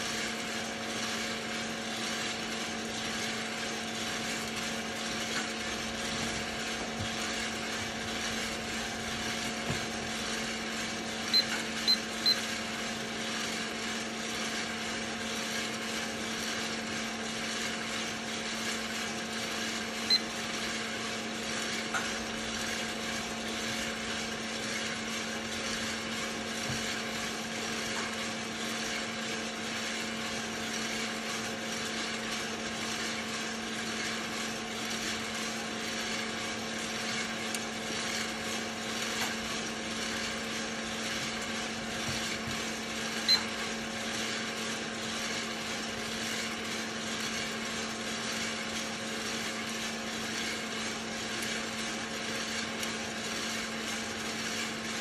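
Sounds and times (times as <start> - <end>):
coffee roaster motor hum: 0.0 - 55.0.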